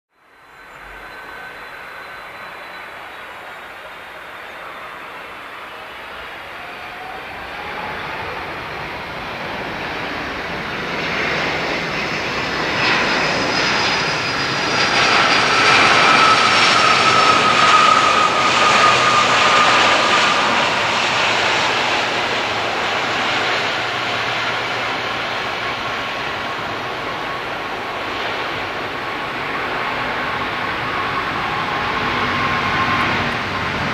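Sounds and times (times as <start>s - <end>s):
jet engines at takeoff thrust: 0.2s - 33.9s.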